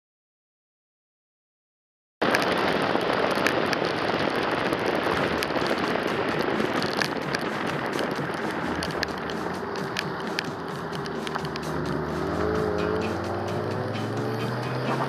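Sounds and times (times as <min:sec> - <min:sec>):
rushing air and wet road: 0:02.2 - 0:15.0
sharp crackles: 0:02.2 - 0:15.0.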